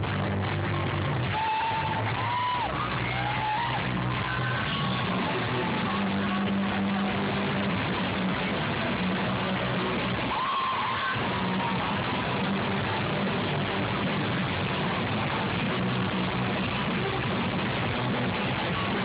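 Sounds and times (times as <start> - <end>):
distorted live rock band: 0.0 - 19.0.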